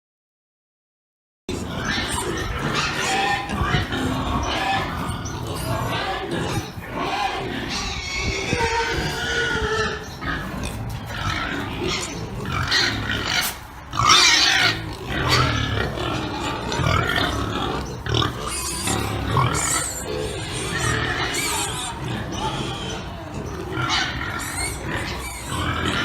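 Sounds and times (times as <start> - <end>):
pigs grunting: 1.5 - 26.0
pigs squealing: 1.5 - 26.0.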